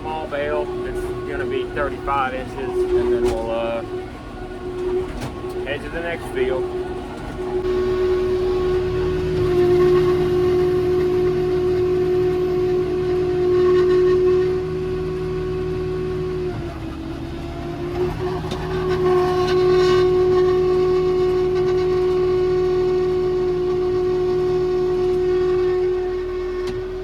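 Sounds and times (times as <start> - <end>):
tractor and baler droning: 0.0 - 27.0.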